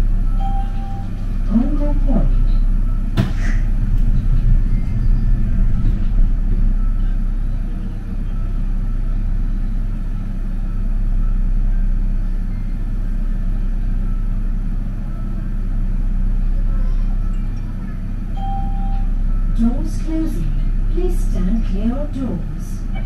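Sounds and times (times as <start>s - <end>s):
train running rumble: 0.0s - 23.0s.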